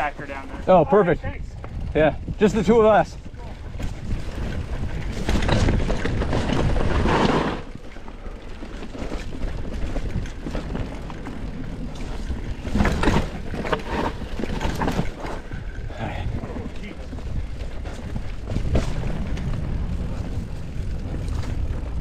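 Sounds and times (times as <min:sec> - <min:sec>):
wind on microphone: 0:00.0 - 0:07.7, 0:09.7 - 0:22.0
bike tyres on dirt: 0:00.0 - 0:22.0.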